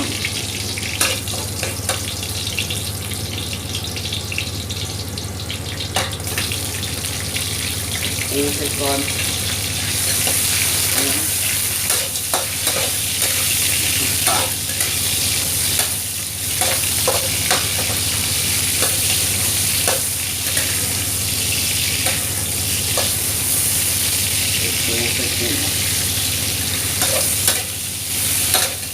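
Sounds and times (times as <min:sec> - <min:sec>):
garlic sizzling in hot oil: 0:00.0 - 0:28.9.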